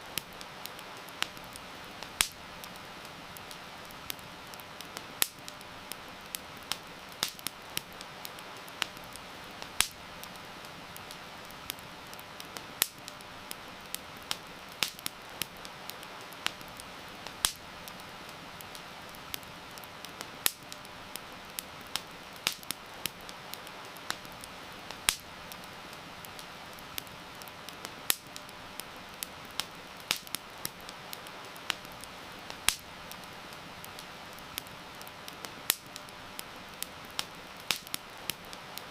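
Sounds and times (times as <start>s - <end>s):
campfire crackling and popping: 0.0s - 38.9s
heavy rain hiss: 0.0s - 38.9s.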